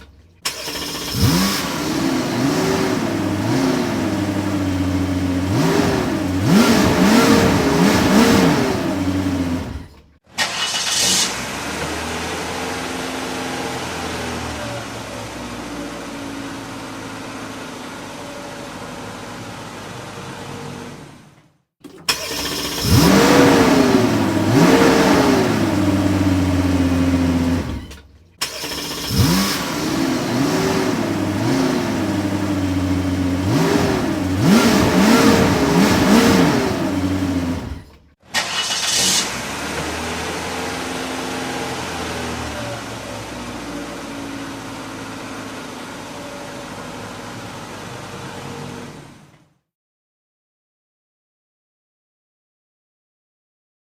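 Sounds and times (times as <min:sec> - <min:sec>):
car engine revving: 0:00.0 - 0:21.0, 0:22.1 - 0:49.2.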